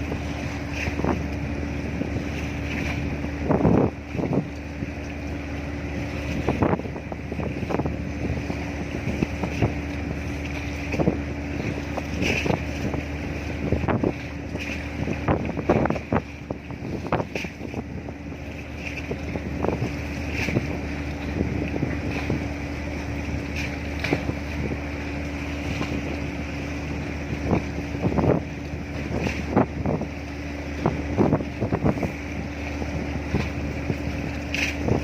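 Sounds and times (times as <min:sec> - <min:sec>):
ship engine droning: 0:00.0 - 0:35.0
wind buffeting microphone: 0:00.0 - 0:35.0.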